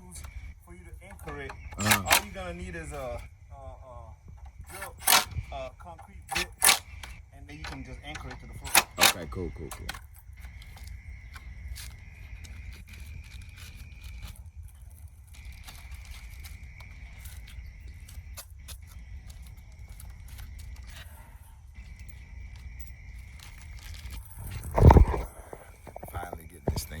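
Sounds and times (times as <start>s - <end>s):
steady high-pitched whine: 0.0s - 27.0s.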